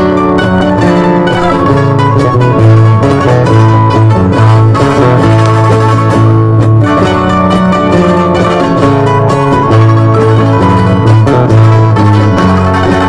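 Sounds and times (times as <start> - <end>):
string-band dance music: 0.0 - 13.0.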